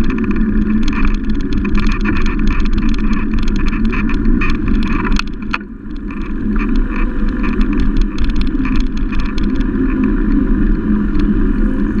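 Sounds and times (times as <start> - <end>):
bike rattling clicks: 0.0 - 11.3
bicycle road rumble: 0.0 - 12.0
wind: 0.0 - 12.0.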